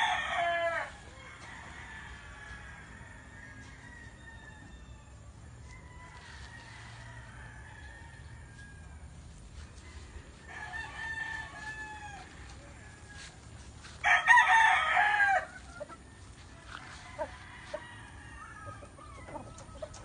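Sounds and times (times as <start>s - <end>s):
rooster crowing: 0.0s - 9.2s, 9.8s - 15.8s, 16.8s - 19.9s.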